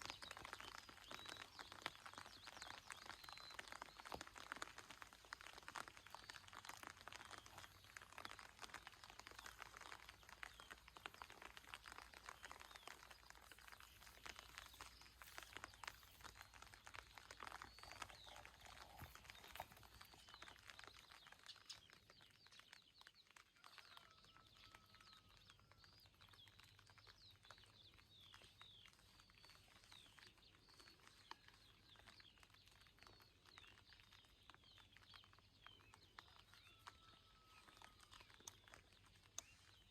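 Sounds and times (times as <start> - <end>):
rain pattering: 0.0 - 39.9
small birds chirping: 0.0 - 39.9.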